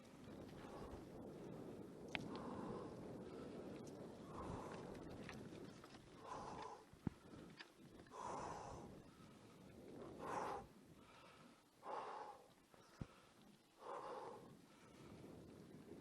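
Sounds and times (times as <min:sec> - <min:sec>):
rider breathing hard: 0:00.1 - 0:15.9.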